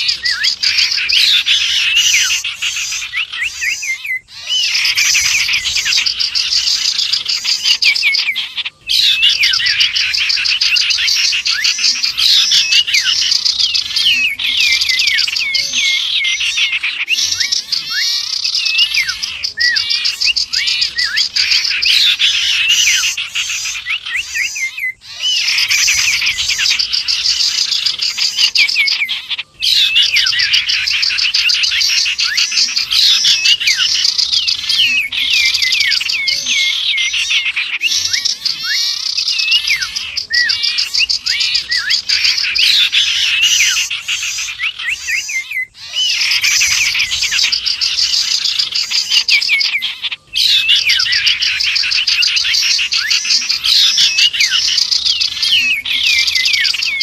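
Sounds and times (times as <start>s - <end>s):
small birds chirping and whistling: 0.0s - 57.0s.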